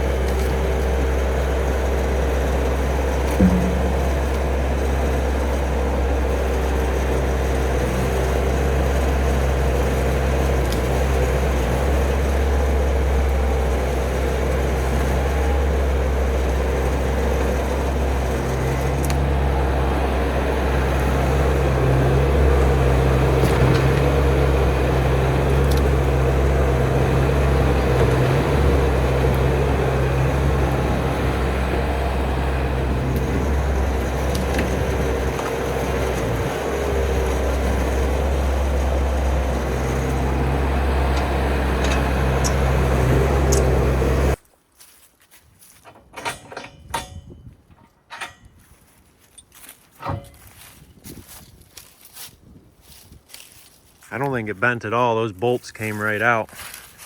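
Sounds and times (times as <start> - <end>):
skid steer engine running: 0.0 - 44.4, 45.6 - 57.0.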